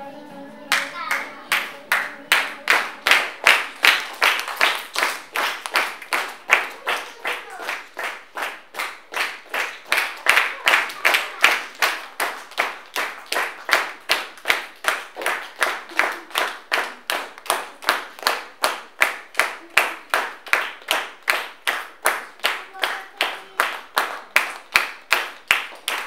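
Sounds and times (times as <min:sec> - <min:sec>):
hands clapping: 0:00.7 - 0:26.0.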